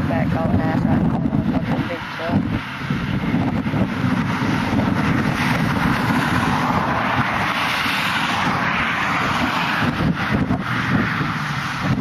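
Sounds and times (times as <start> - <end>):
highway traffic passing: 0.0 - 12.0
wind rumbling on microphone: 0.0 - 12.0.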